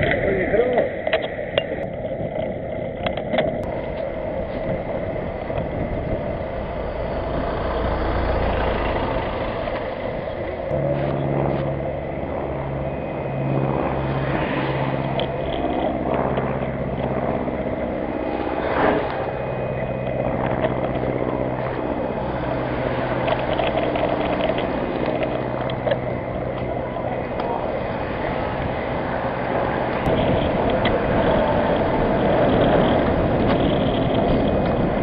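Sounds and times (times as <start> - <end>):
bicycle tyres on asphalt: 0.0 - 35.0
low hum: 0.0 - 35.0
wind noise: 0.0 - 35.0.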